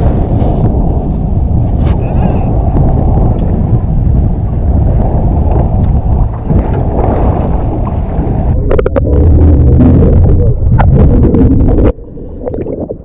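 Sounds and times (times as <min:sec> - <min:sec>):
boat engines rumbling: 0:00.0 - 0:12.7
water at sea: 0:00.0 - 0:13.0
wind buffeting microphone: 0:00.0 - 0:13.0.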